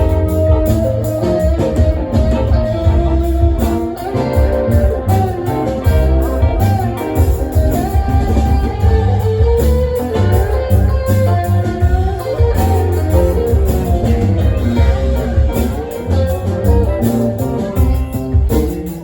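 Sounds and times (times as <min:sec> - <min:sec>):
guitar: 0:00.0 - 0:19.0
heavy bass line: 0:00.0 - 0:19.0
live band playing: 0:00.0 - 0:19.0.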